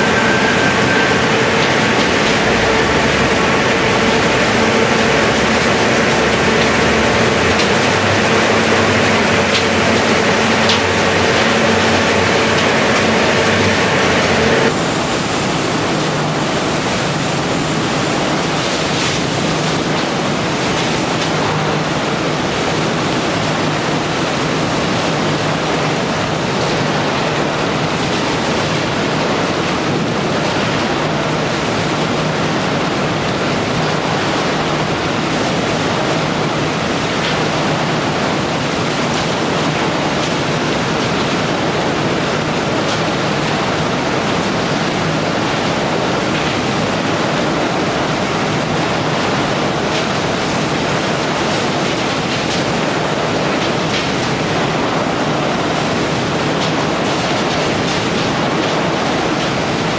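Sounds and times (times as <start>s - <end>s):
machinery roaring: 0.0s - 58.9s
machinery humming: 0.0s - 59.9s.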